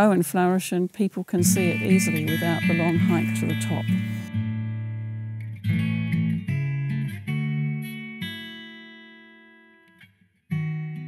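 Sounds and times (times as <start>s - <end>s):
plucked acoustic guitar: 1.4s - 11.0s.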